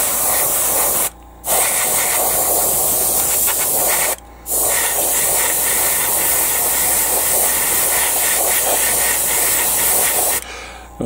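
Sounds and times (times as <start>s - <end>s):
airbrush hissing: 0.0s - 10.5s.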